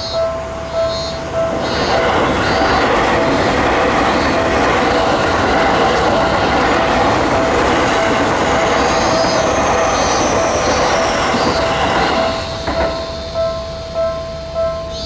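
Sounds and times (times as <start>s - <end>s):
crossing warning bell ringing: 0.0s - 15.0s
high wheel squeal: 0.0s - 15.0s
train wheel-on-rail noise: 0.0s - 15.0s.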